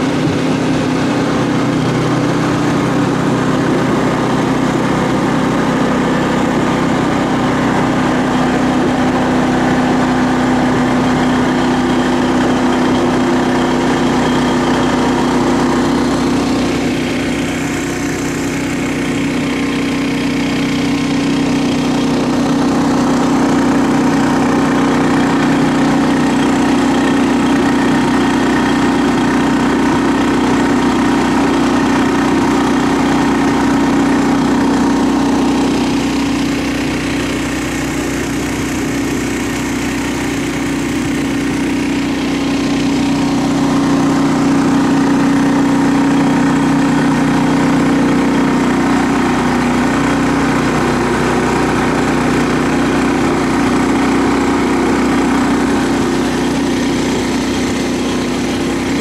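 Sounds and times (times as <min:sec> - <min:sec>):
small engine running under load: 0:00.0 - 0:59.0.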